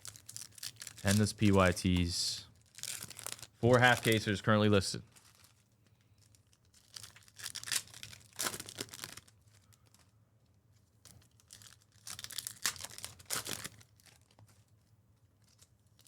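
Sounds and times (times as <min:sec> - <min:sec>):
packaging crinkling and tearing: 0:00.0 - 0:04.4, 0:05.1 - 0:10.1, 0:11.0 - 0:16.0.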